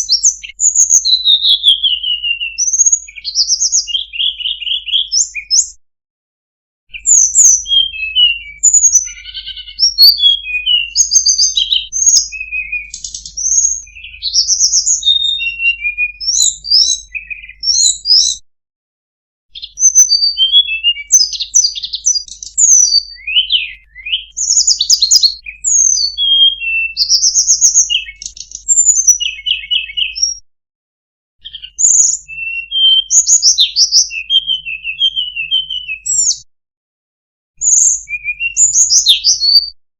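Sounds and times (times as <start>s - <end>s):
bird singing chirps and trills: 0.0s - 5.8s, 6.9s - 18.4s, 19.6s - 30.4s, 31.4s - 36.4s, 37.6s - 39.8s.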